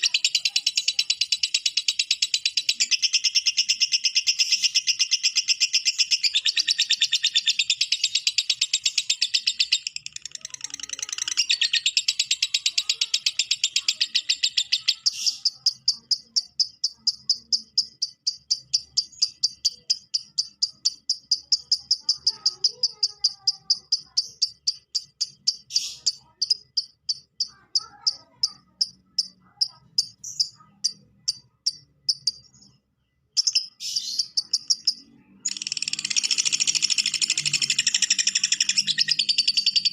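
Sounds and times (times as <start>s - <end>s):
lovebird chattering: 0.0s - 39.9s.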